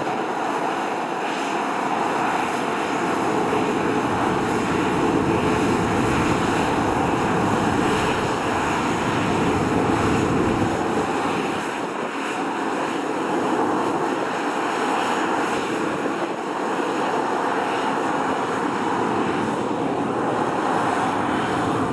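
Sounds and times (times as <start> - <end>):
jet engines at takeoff: 0.0 - 21.9.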